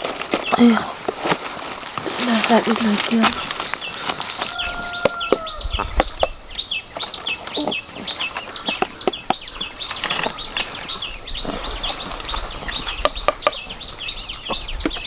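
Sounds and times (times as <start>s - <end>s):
rustling: 0.0s - 6.1s, 6.9s - 14.2s
birds chirping: 0.0s - 15.0s.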